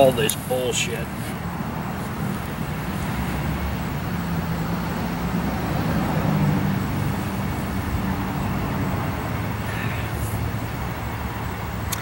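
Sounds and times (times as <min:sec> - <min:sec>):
low vehicle engine drone: 0:00.0 - 0:12.0.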